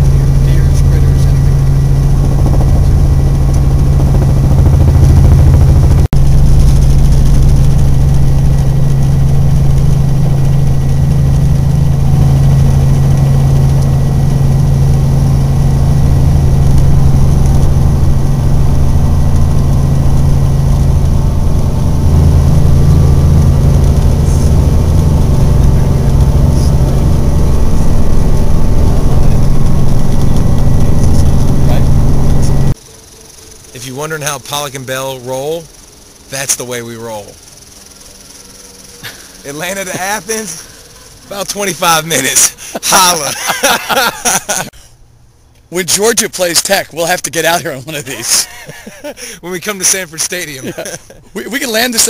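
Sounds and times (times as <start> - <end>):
helicopter rotor and engine drone: 0.0 - 52.0.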